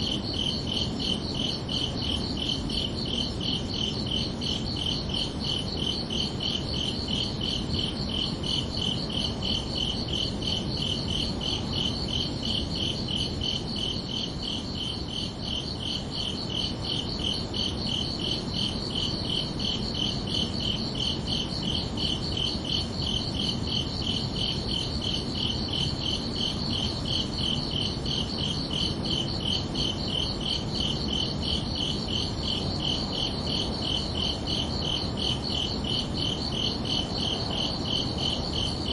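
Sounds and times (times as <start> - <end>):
crickets chirping: 0.0 - 38.9
low night ambience hum: 0.0 - 38.9.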